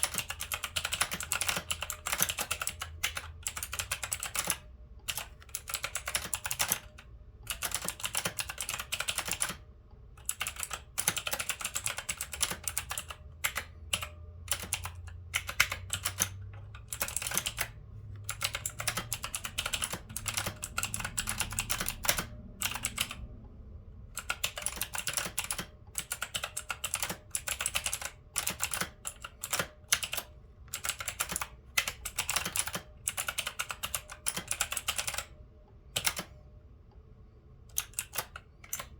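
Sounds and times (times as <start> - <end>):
mechanical keyboard typing: 0.0 - 9.6, 10.2 - 23.3, 24.2 - 36.4, 37.7 - 38.9.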